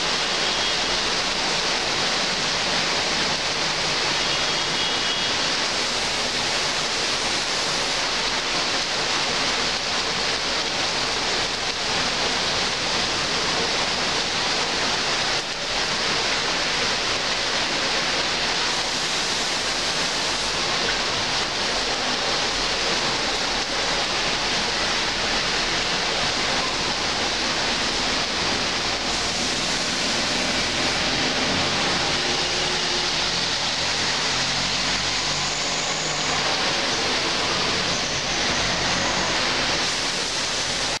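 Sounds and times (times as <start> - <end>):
heavy rain on leaves: 0.0 - 41.0.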